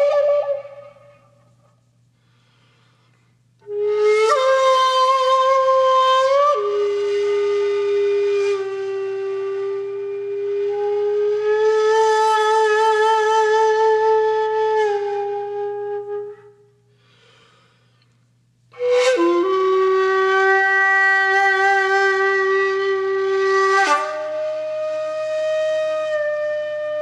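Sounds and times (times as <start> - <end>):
wind instrument long held notes: 0.0 - 1.6, 3.6 - 16.7, 18.7 - 27.0.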